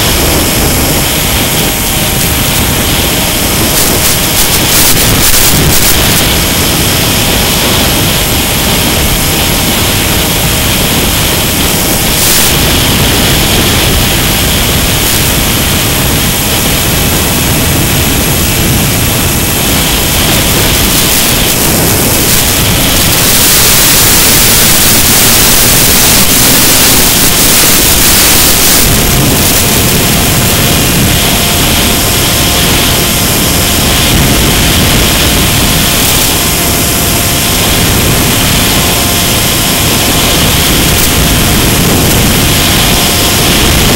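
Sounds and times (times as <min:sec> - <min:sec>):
faint steady whine: 0:00.0 - 0:43.9
rushing air and electric motor: 0:00.0 - 0:43.9.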